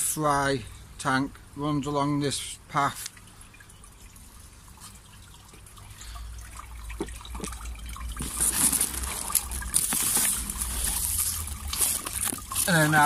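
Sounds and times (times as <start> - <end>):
water trickling and splashing: 0.5 - 13.0.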